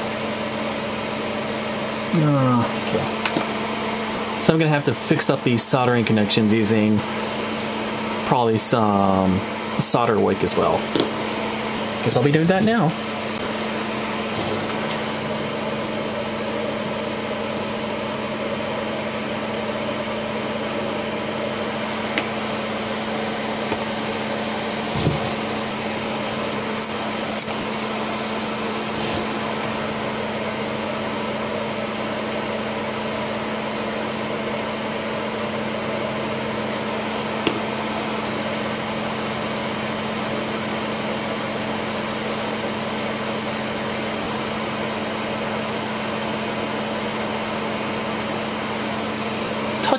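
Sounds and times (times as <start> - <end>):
small fan motor humming: 0.0 - 49.9.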